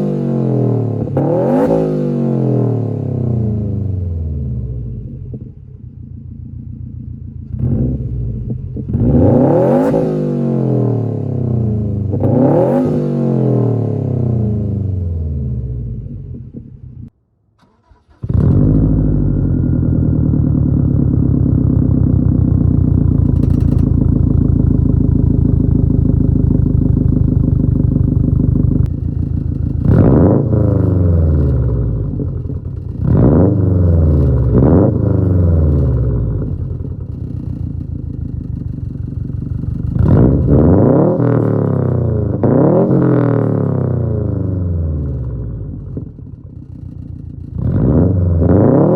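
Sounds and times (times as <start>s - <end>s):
car engine revving: 0.0s - 5.4s, 7.4s - 38.5s, 39.4s - 46.1s, 47.6s - 48.9s.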